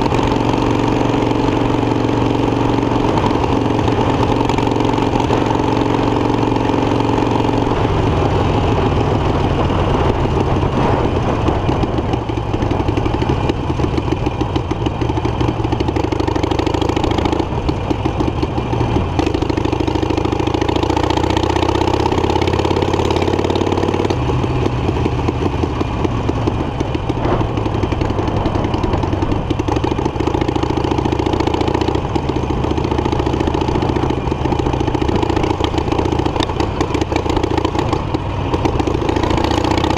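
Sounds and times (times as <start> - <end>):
motorcycle accelerating: 0.0 - 39.9
motorcycle engine running: 0.0 - 39.9.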